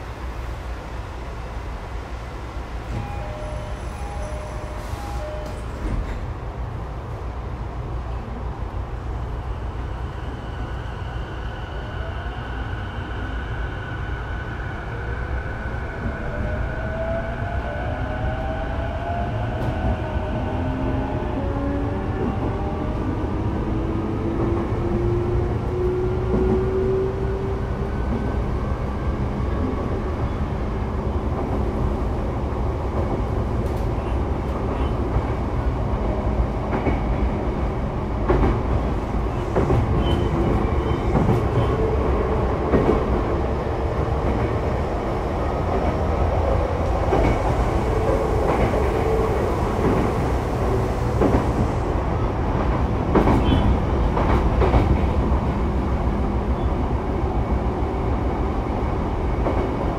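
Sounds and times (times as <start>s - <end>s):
rumble of wheels on track: 0.0s - 59.9s.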